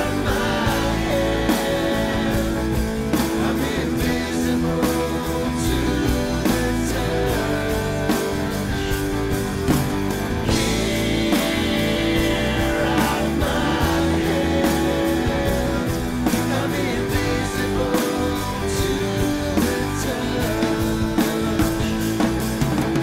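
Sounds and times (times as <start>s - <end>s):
rock drum kit: 0.0s - 23.0s
sustained band instruments: 0.0s - 23.0s.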